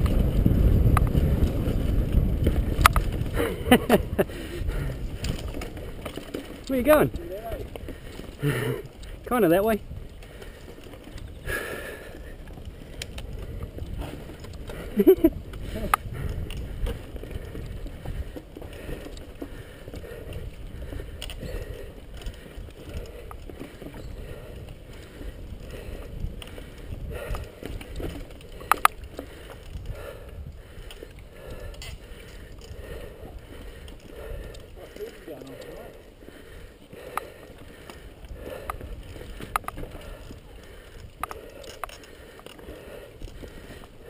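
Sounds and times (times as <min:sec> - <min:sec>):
wind on microphone: 0:00.0 - 0:06.2, 0:06.9 - 0:34.9, 0:38.0 - 0:42.0
bike rattling: 0:00.0 - 0:44.0
tyres rolling on dirt: 0:00.0 - 0:44.0.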